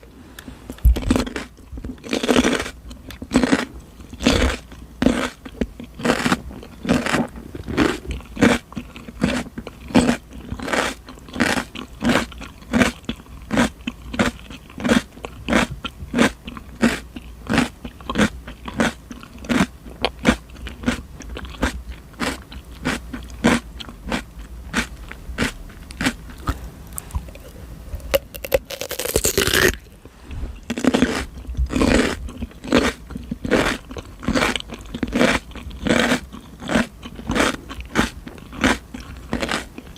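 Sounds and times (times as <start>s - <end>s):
chewing crisp cucumber: 0.7s - 39.9s.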